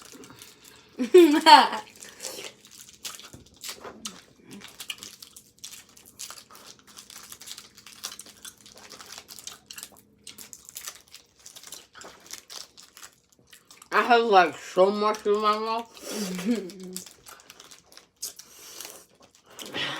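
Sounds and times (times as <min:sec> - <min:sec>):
candy wrappers tearing and crinkling: 0:00.0 - 0:19.9.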